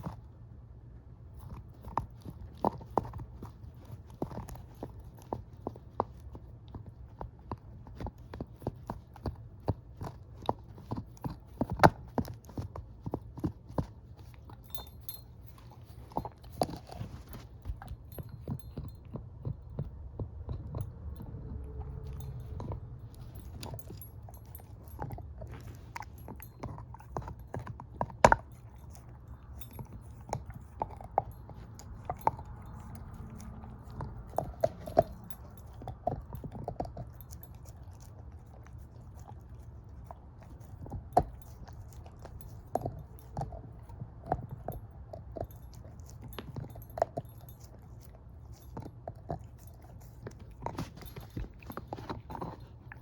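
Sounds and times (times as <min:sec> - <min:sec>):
dog chewing on a bone: 0:00.0 - 0:53.0.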